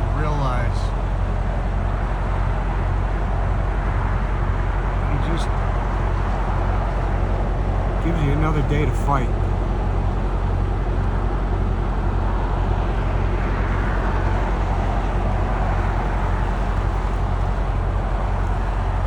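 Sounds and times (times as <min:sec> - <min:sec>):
road noise: 0:00.0 - 0:19.0
truck diesel engine droning: 0:00.0 - 0:19.0.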